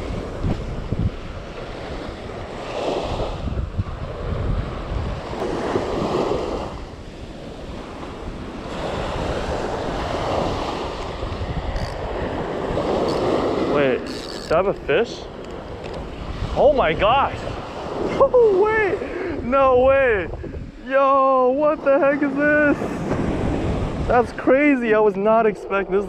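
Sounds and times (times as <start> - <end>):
surf breaking on beach: 0.0 - 15.3, 16.1 - 24.7
wind buffeting microphone: 0.0 - 20.9, 21.5 - 26.0.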